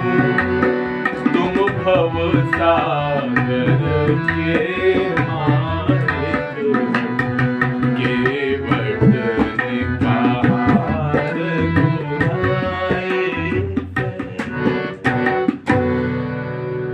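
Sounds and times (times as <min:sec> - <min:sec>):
held melody: 0:00.0 - 0:16.9
tabla playing a rhythm: 0:00.0 - 0:16.9.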